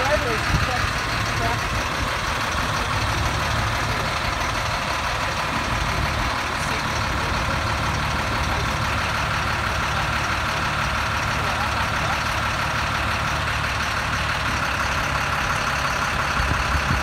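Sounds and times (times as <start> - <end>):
diesel bus engine idling: 0.0 - 17.0.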